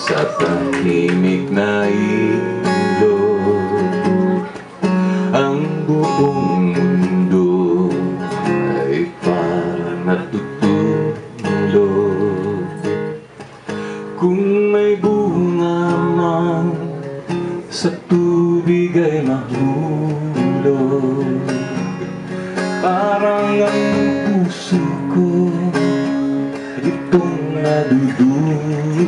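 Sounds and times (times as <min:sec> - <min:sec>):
strummed acoustic guitar folk music: 0:00.0 - 0:29.0.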